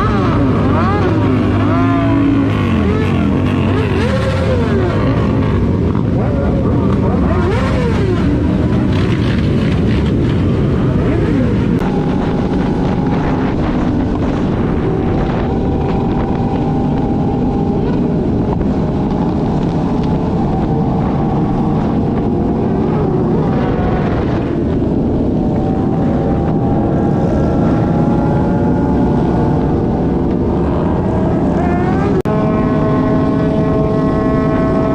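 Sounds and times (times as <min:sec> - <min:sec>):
motorcycle engines running: 0:00.0 - 0:34.9
wind noise on microphone: 0:00.0 - 0:34.9.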